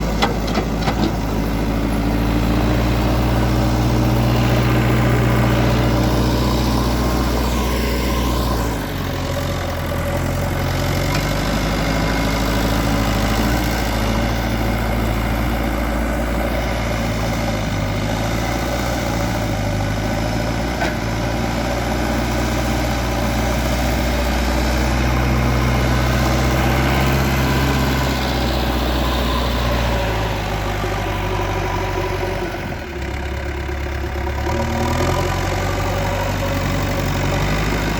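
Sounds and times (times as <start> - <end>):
backhoe diesel engine running: 0.0 - 37.9.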